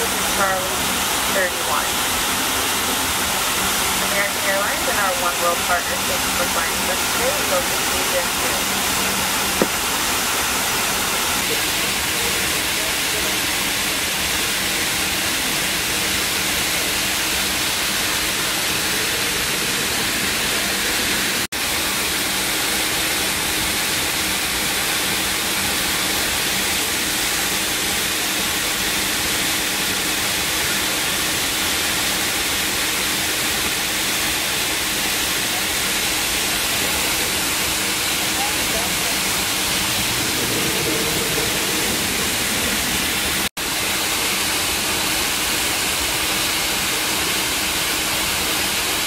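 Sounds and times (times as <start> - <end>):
jet engines taxiing: 0.0 - 32.2, 35.0 - 47.3.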